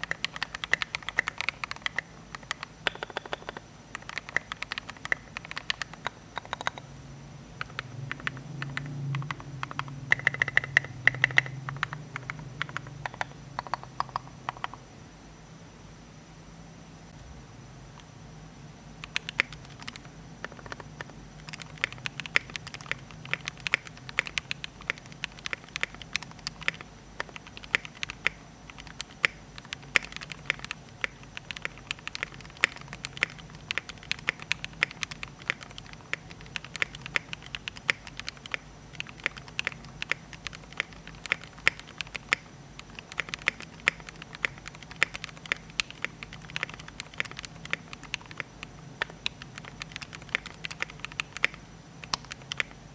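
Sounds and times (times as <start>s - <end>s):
mechanical keyboard typing: 0.0s - 6.9s, 7.6s - 14.8s, 19.0s - 52.8s.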